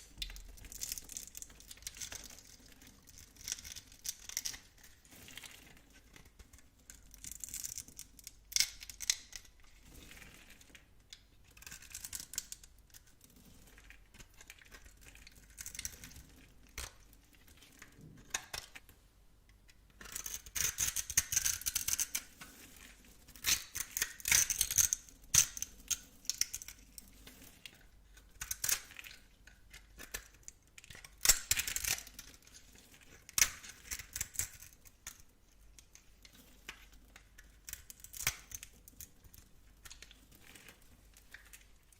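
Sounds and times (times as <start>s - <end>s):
knife scraping dry soap: 0.2s - 10.6s, 11.5s - 18.8s, 20.0s - 41.9s.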